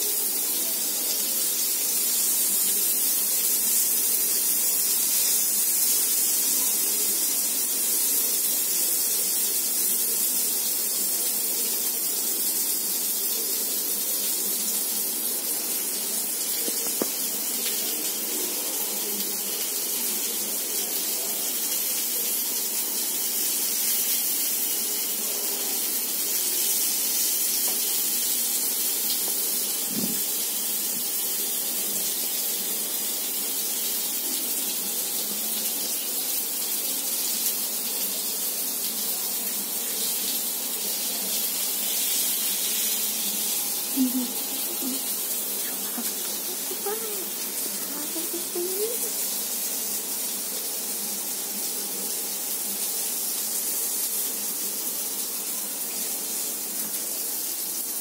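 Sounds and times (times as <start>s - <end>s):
food sizzling on a hot pan: 0.0s - 58.0s.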